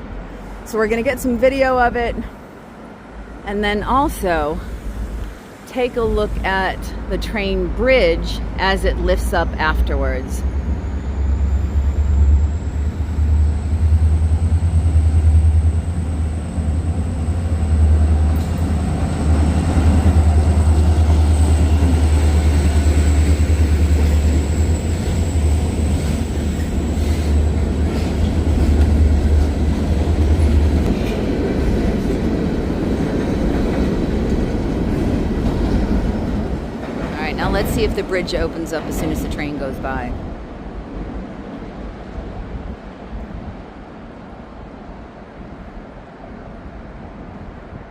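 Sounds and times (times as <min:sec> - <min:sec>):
train rumbling over trestle: 0:00.0 - 0:45.4.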